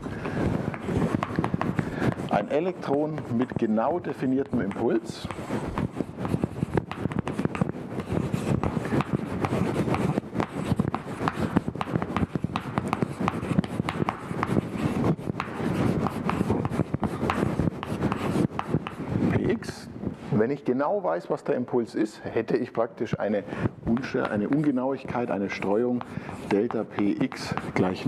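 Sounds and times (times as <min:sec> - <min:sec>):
chalk writing on a blackboard: 0:00.0 - 0:19.2, 0:23.9 - 0:28.0.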